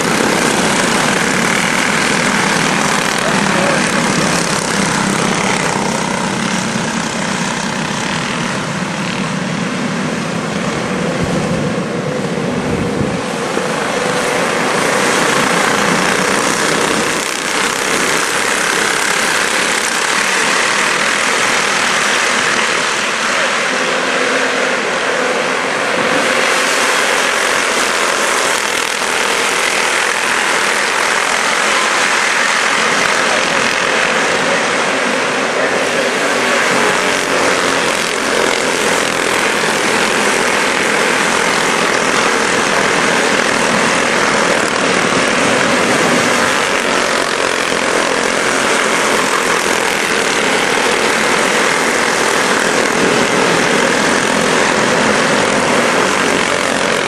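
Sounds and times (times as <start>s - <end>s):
small race car engines buzzing: 0.0s - 57.0s.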